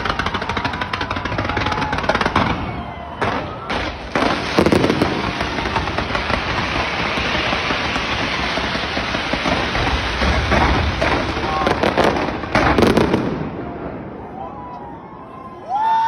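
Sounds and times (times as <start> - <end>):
fireworks crackling: 0.0 - 14.3.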